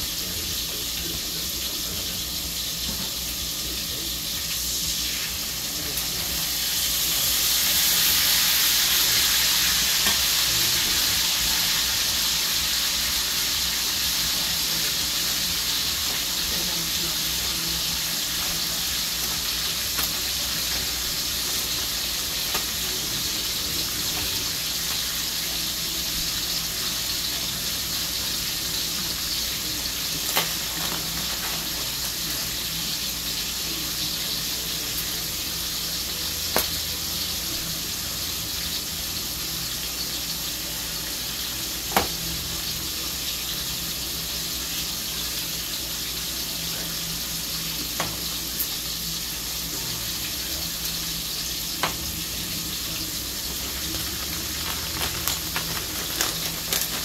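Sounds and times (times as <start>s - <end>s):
steak sizzling in a skillet: 0.0s - 57.0s.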